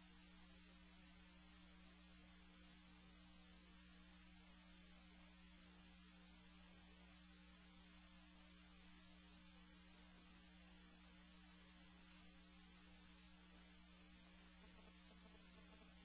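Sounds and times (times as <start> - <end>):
faint electrical hum with hiss: 0.0 - 16.0.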